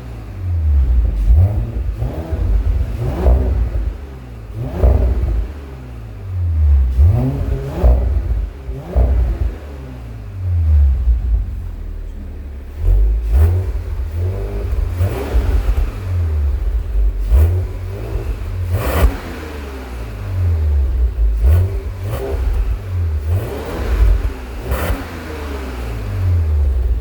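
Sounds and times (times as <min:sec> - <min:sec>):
car engine revving: 0:00.0 - 0:27.0
exhaust cracks: 0:00.0 - 0:27.0.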